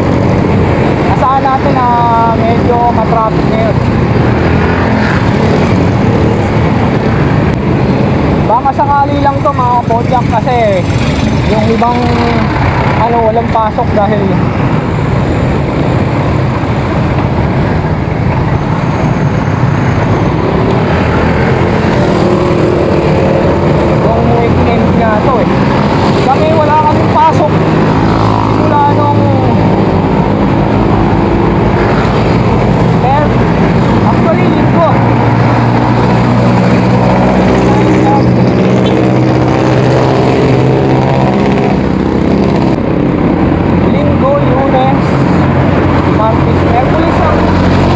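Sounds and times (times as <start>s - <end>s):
city traffic: 0.0s - 47.9s
wind rush on microphone: 0.0s - 47.9s.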